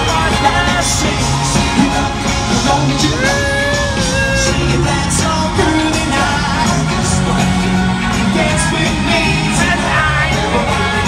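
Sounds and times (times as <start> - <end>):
live pop band in arena: 0.0 - 11.0.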